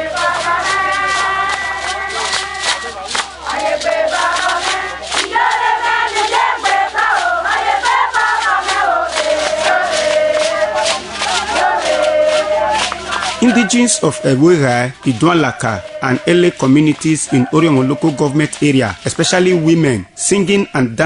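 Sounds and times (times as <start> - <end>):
group singing in chorus: 0.0 - 20.1
sharp rhythmic beats: 0.0 - 21.0.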